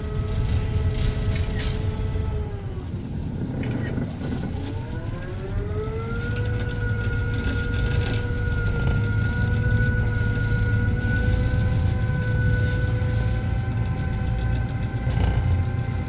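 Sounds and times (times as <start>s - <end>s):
boat engine rumbling and whining: 0.0s - 16.0s.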